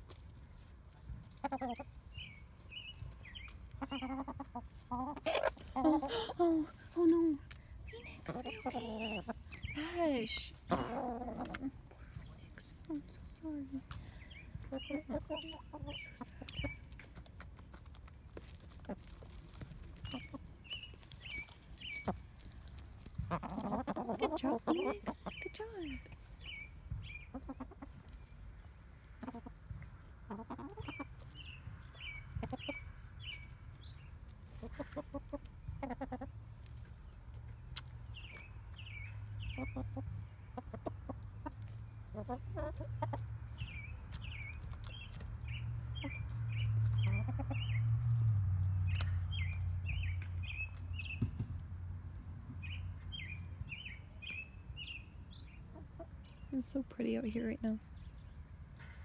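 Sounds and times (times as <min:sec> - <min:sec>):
hens clucking: 0:00.0 - 0:48.1, 0:55.3 - 0:57.8.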